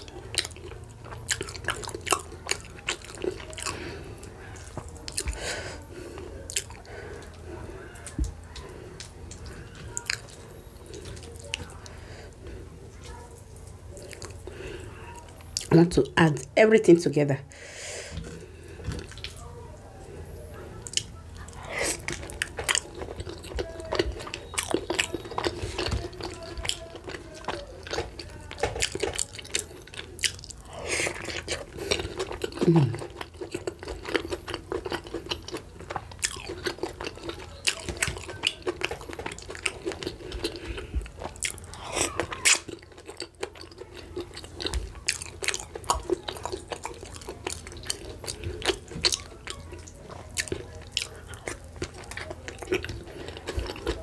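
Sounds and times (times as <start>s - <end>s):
chewing and wet mouth sounds: 0.0s - 16.6s, 18.0s - 54.0s.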